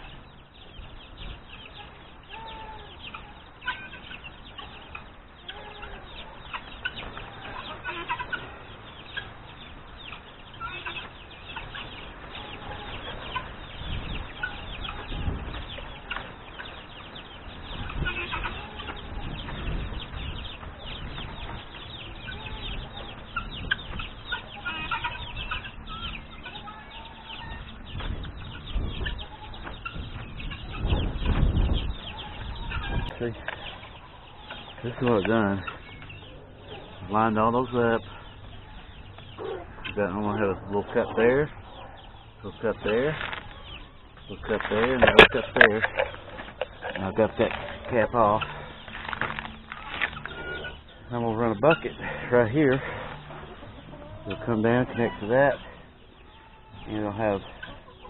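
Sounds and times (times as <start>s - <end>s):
chickens clucking: 0.0s - 58.0s
farmyard poultry chatter: 0.0s - 58.0s.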